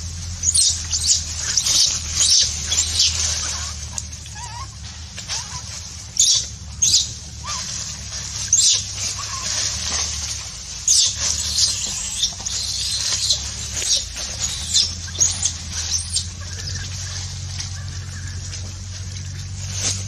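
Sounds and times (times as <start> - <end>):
dry leaves crackling and rustling: 0.0 - 20.0
steady low rumble: 0.0 - 20.0.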